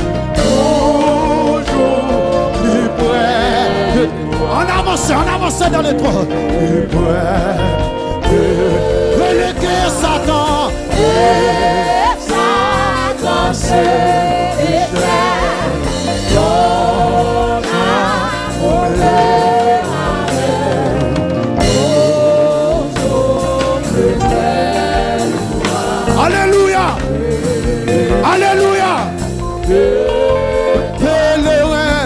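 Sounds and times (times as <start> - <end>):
instrumental backing with beat: 0.0 - 32.0
voices singing gospel music: 0.0 - 32.0.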